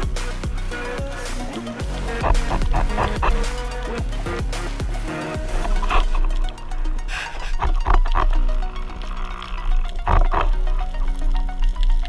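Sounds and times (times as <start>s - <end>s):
music with held tones: 0.0s - 12.0s
underwater throaty grunts: 0.8s - 10.6s.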